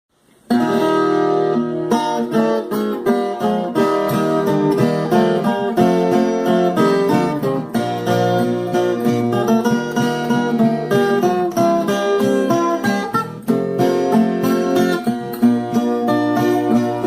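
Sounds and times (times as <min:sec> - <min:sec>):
folk guitar strummed and plucked: 0:00.2 - 0:17.0.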